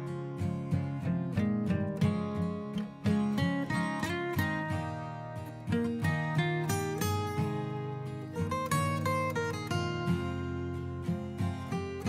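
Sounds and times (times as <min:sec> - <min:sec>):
acoustic guitar plucked melody: 0:00.0 - 0:12.0.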